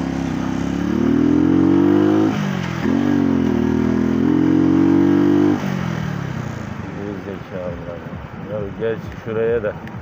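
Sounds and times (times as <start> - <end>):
motorcycle engine accelerating: 0.0 - 8.3.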